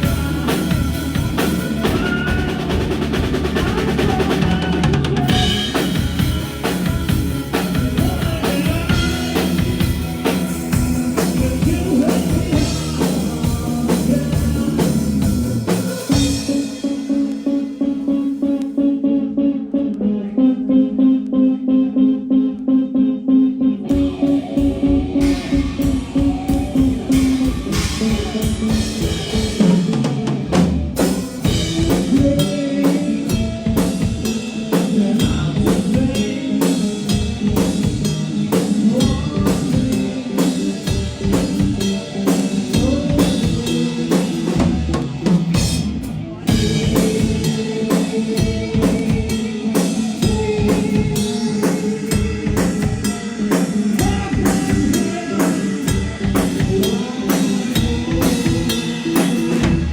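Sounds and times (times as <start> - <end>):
drum kit beat: 0.0 - 18.8, 23.9 - 59.9
bass and guitar notes: 0.0 - 59.9.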